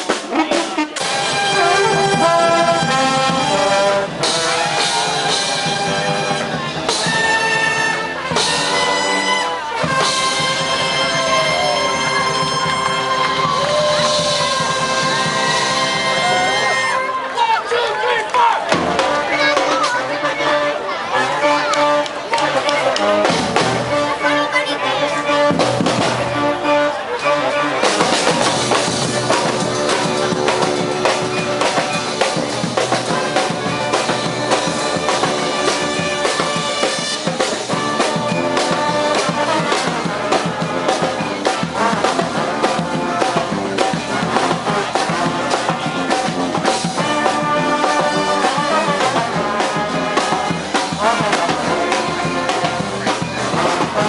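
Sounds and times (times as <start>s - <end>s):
steady drum beat: 0.0s - 17.0s, 18.4s - 20.1s, 22.3s - 24.2s, 25.3s - 26.6s, 27.8s - 54.0s
brass band playing: 0.0s - 54.0s.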